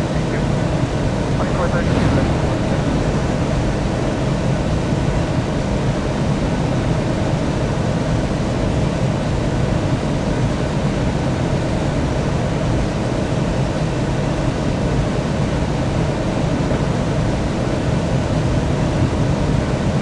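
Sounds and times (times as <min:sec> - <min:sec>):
jet airliner drone: 0:00.0 - 0:20.0.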